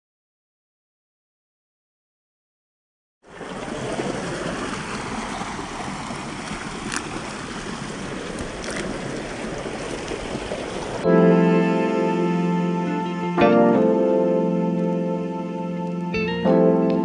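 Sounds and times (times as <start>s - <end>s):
running water rushing: 3.2s - 17.0s.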